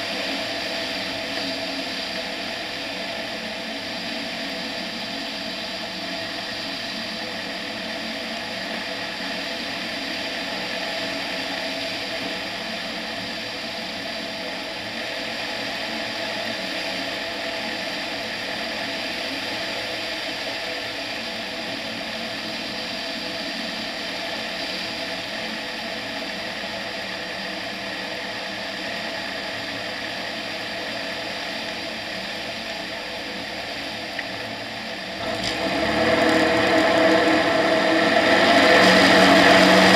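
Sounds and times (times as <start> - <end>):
propeller engine running: 0.0 - 39.9.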